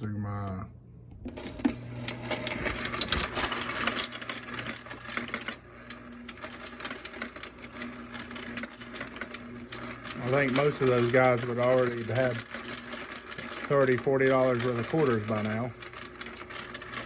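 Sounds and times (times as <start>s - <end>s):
motor hum: 1.2s - 17.0s
coins rattling and clicking: 2.3s - 17.0s.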